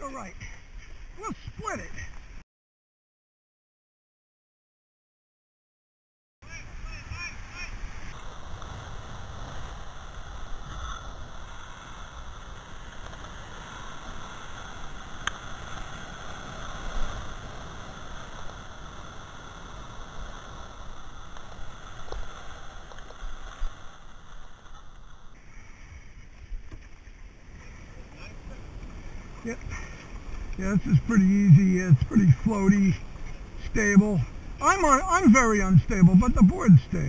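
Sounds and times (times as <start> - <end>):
water rushing along paddleboard: 0.0 - 2.4, 6.4 - 37.0.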